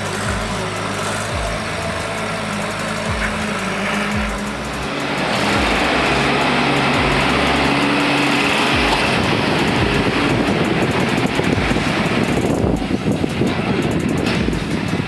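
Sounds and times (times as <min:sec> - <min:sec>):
diesel engine revving under load: 0:00.0 - 0:15.0.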